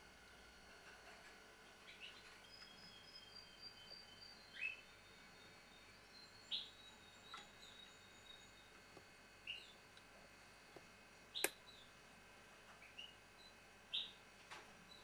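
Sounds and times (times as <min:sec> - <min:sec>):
songbirds chirping: 0:00.8 - 0:15.0.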